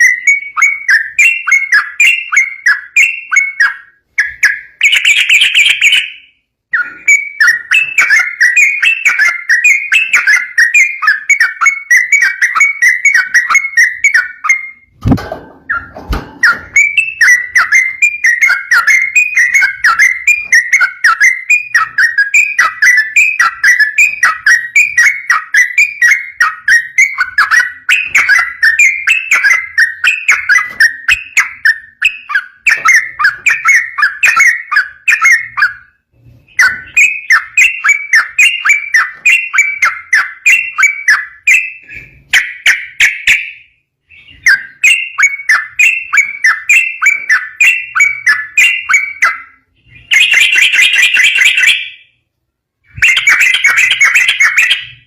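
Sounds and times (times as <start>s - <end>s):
bird singing chattering song: 0.0s - 15.0s, 15.7s - 52.2s, 52.9s - 55.0s.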